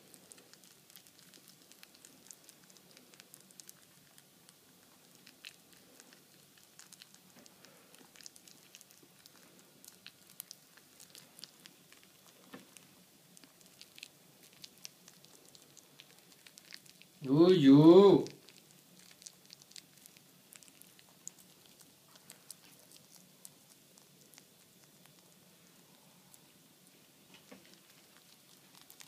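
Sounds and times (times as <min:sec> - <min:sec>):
rabbit chewing: 0:00.0 - 0:29.0.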